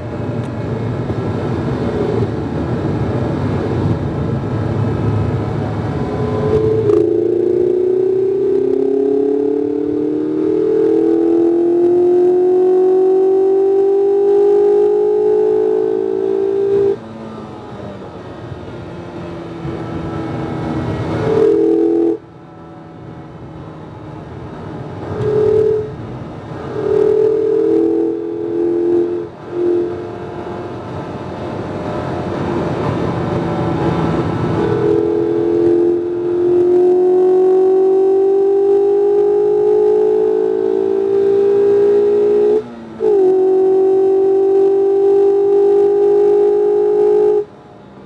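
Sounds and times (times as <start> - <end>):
car engine revving hard: 0.8 - 17.6, 19.3 - 22.2, 24.2 - 47.5.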